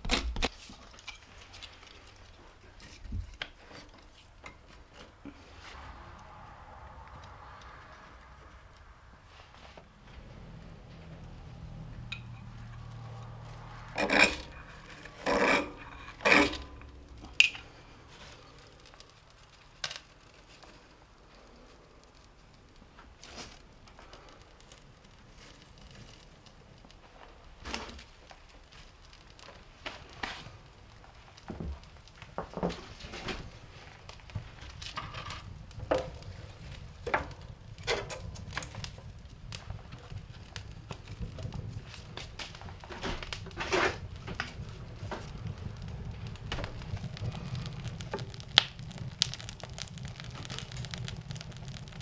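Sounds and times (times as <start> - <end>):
fire crackling and popping: 0.0 - 52.0
rasping flame strikes: 2.8 - 21.2, 23.1 - 52.0.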